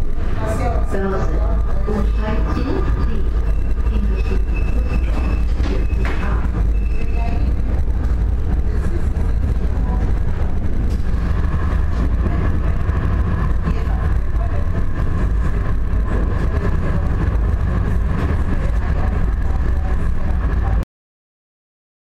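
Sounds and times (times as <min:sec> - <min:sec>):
high whine: 0:00.0 - 0:20.8
tram wheels rumbling on rails: 0:00.0 - 0:20.8.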